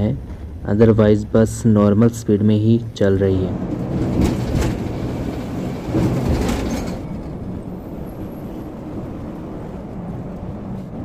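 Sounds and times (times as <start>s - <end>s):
bus road and tyre rumble: 0.0s - 11.0s.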